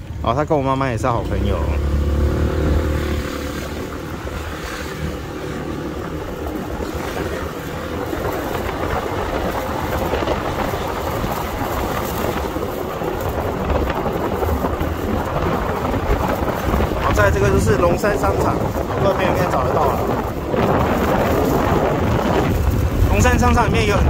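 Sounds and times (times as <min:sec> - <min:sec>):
engine hum: 0:00.0 - 0:24.0
rush of passing vehicles: 0:00.0 - 0:24.0.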